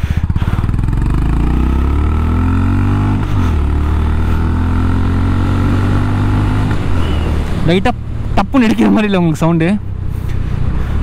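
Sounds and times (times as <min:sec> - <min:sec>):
motorcycle engine accelerating: 0:00.0 - 0:09.2.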